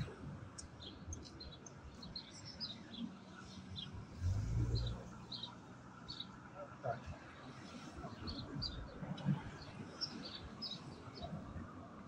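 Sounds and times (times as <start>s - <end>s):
small birds chirping: 0.0s - 6.4s, 8.1s - 11.4s.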